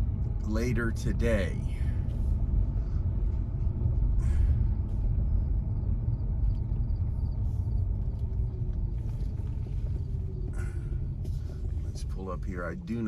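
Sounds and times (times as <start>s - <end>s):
low rumble of tyres and air: 0.0s - 13.0s.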